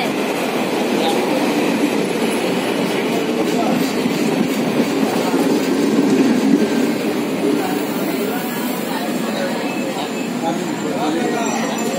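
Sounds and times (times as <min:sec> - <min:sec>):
train wheels on rails: 0:00.0 - 0:11.9.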